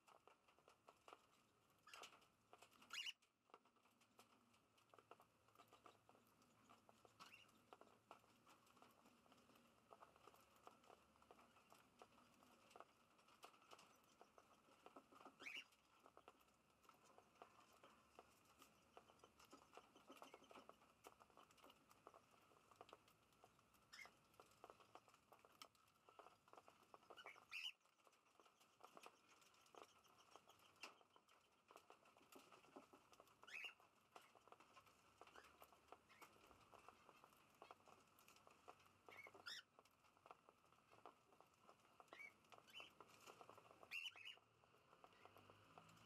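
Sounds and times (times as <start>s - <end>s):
beaks pecking and cracking seed: 0.0s - 46.0s.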